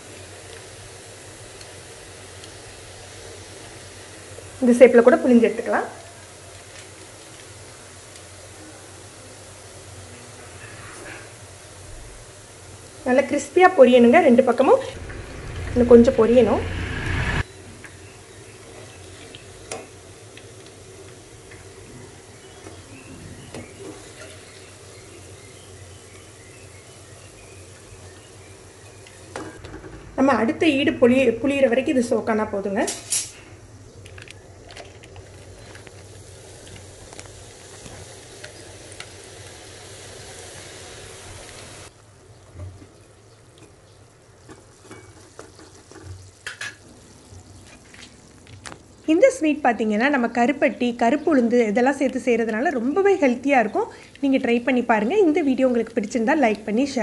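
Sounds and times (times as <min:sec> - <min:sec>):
batter sizzling in oil: 0:00.0 - 0:29.6, 0:33.0 - 0:49.4.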